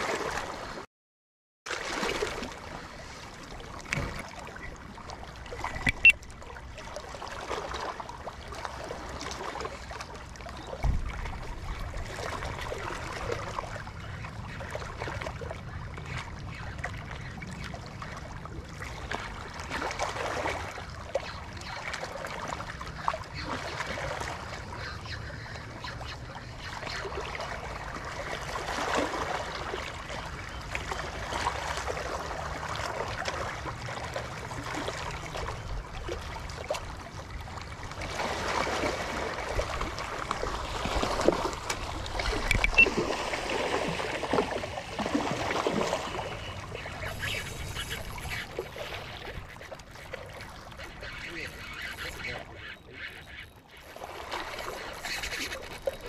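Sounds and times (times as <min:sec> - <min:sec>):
water splashing and trickling: 0:00.0 - 0:00.9, 0:01.7 - 0:56.0.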